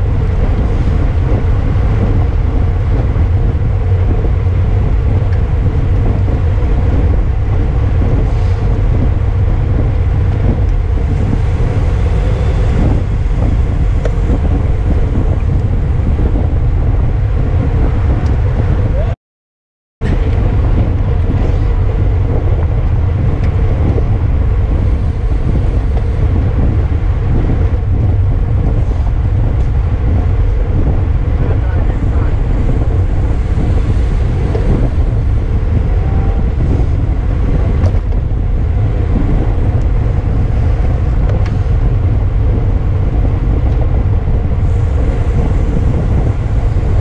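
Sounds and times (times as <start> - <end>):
wind rumbling on microphone: 0.0 - 19.2, 20.0 - 47.0.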